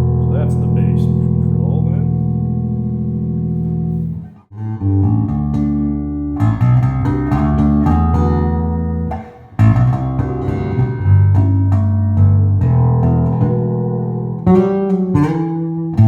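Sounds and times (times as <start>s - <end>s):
electric bass plucked notes: 0.0s - 16.0s.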